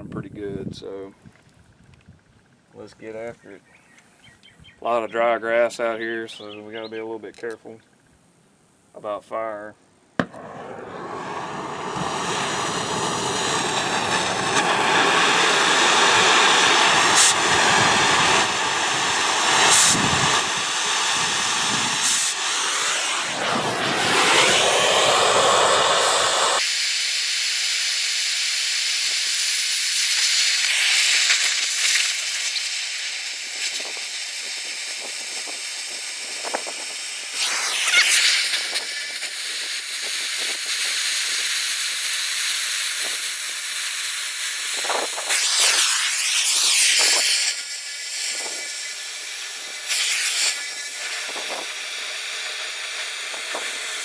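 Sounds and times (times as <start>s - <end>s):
cutting torch hissing: 10.2s - 54.0s.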